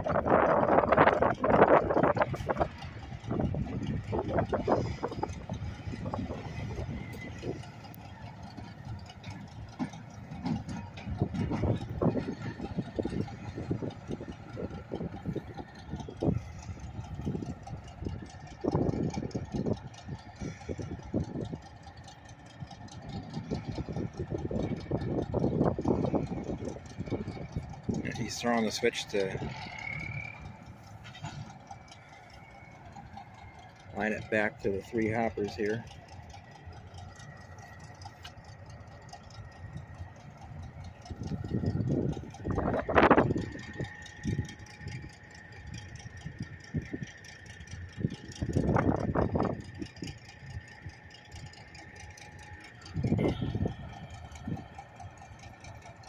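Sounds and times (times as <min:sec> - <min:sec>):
diesel locomotive engine idling: 0:00.0 - 0:56.0.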